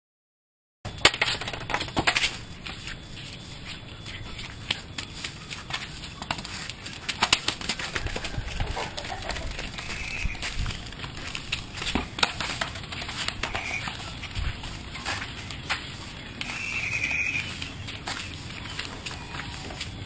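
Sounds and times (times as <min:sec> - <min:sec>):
steady outdoor hiss: 0:00.9 - 0:20.0
plastic sandals scuffing: 0:02.0 - 0:20.0.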